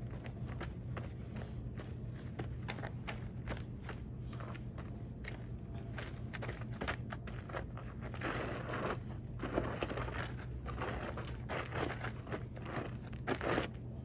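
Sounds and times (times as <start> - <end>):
footsteps on gravelly dirt: 0.0 - 14.0
low hum: 0.0 - 14.0.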